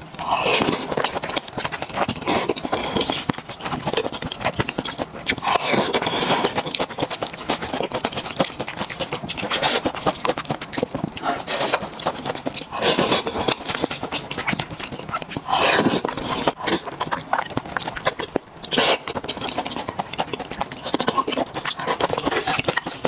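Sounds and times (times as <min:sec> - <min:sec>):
breathy slurps: 0:00.1 - 0:23.0
wet chewing mouth smacks: 0:00.1 - 0:23.0.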